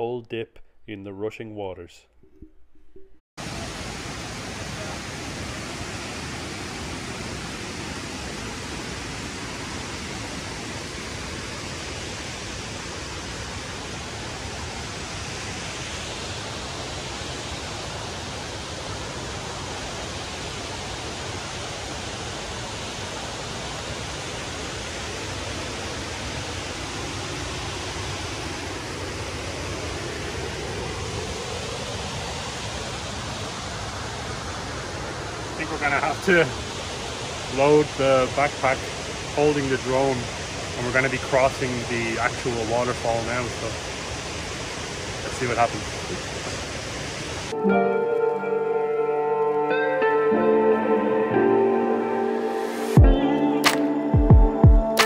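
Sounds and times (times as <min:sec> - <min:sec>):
waterfalls rushing: 0:03.4 - 0:49.7.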